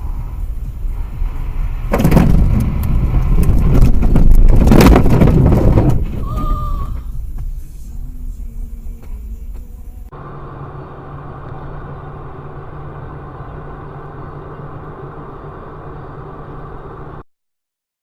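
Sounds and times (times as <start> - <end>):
muffled low drone: 0.0 - 17.2
vehicle engine and road noise: 0.0 - 17.3.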